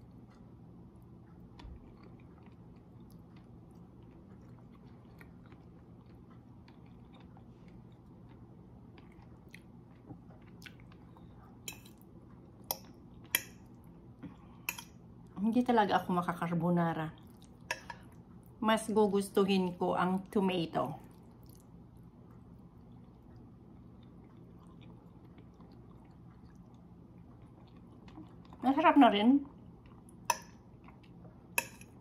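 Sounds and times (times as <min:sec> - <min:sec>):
person chewing food: 0:00.0 - 0:15.3, 0:17.2 - 0:18.6, 0:21.0 - 0:28.6, 0:29.4 - 0:32.0
faint low hum: 0:00.0 - 0:32.0.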